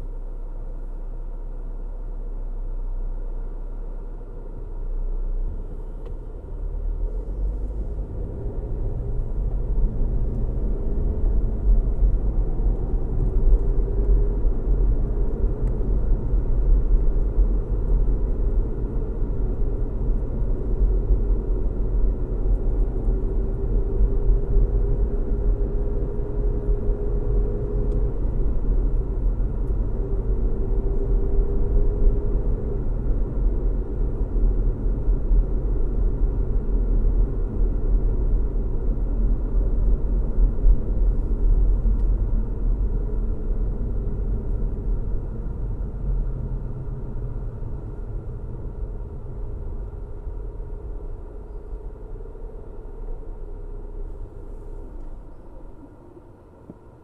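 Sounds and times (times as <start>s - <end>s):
car engine hum: 0.0s - 57.0s
car tyres rumbling on road: 0.0s - 57.0s
faint whine: 2.4s - 57.0s.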